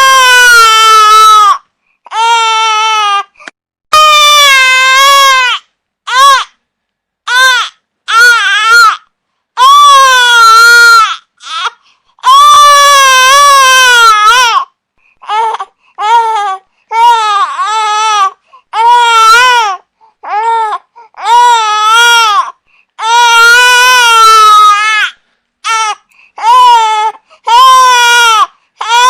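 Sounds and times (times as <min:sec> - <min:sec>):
infant crying: 0:00.0 - 0:06.6, 0:07.3 - 0:29.0.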